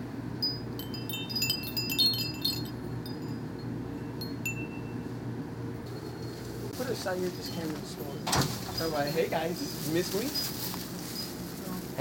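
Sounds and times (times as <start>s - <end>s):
wind chimes jingling: 0.4s - 5.1s, 5.9s - 12.0s.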